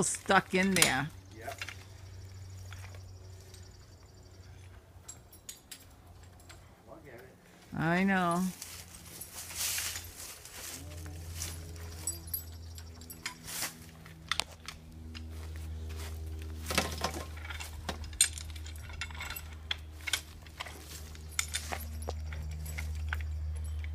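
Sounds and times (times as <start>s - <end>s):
knocks and metallic clinks: 0.0s - 7.3s, 8.6s - 15.3s, 16.2s - 23.9s
steady low hum: 0.0s - 23.9s.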